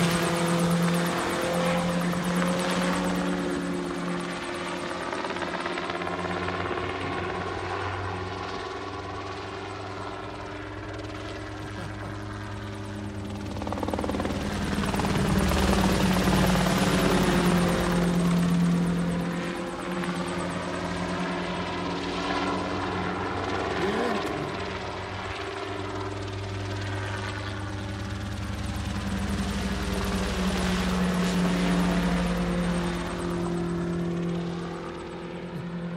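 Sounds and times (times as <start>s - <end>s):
helicopter rotor and engine drone: 0.0s - 35.9s.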